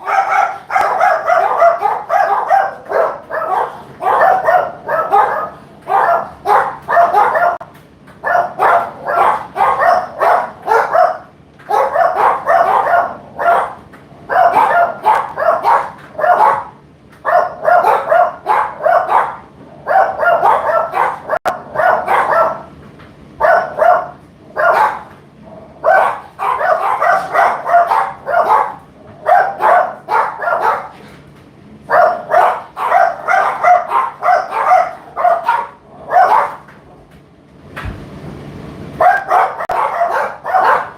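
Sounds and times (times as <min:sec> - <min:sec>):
dog barking: 0:00.0 - 0:22.7, 0:23.4 - 0:25.1, 0:25.8 - 0:31.0, 0:31.9 - 0:36.7, 0:39.0 - 0:40.9.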